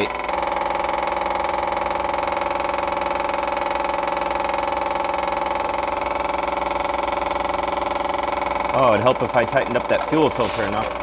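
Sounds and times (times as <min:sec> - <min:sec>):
electric fuel pump buzzing: 0:00.0 - 0:11.0.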